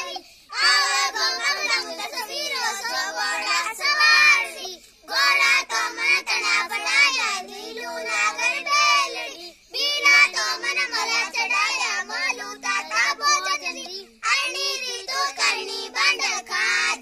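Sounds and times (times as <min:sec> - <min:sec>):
children singing folk song: 0:00.0 - 0:17.0.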